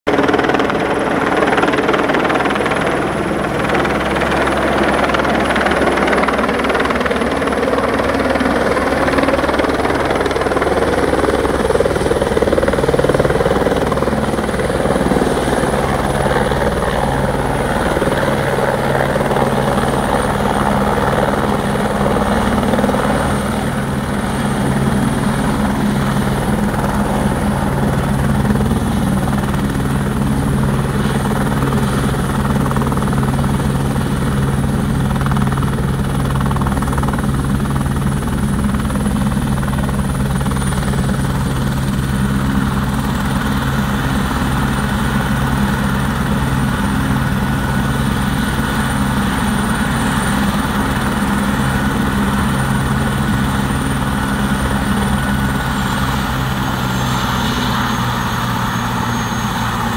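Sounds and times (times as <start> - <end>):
helicopter rotor and turbine: 0.0 - 59.9
high turbine whine: 0.1 - 34.5, 38.6 - 59.9.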